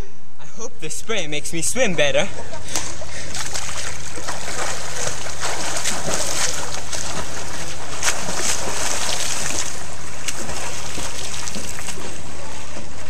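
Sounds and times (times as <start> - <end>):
water splashing from swimming: 2.3 - 13.0.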